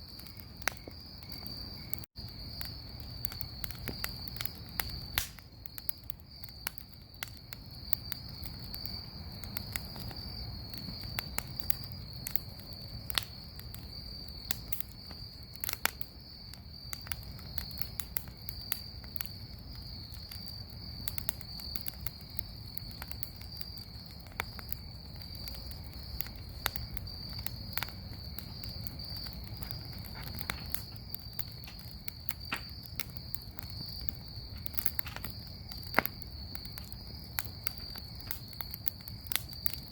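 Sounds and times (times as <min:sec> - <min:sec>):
bonfire crackling and popping: 0:00.0 - 0:39.9
insects trilling: 0:00.0 - 0:39.9.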